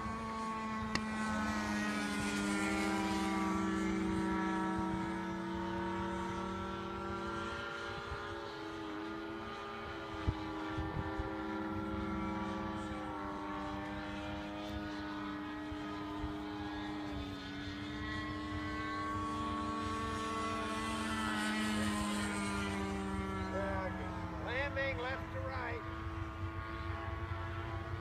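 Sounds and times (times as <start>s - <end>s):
propeller airplane droning overhead: 0.0s - 28.0s.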